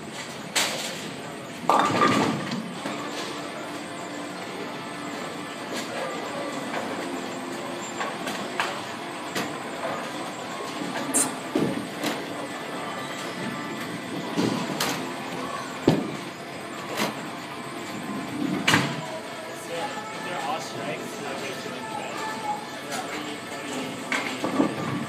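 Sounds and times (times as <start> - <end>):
rumble of bowling machinery: 0.0 - 19.5, 22.6 - 25.0.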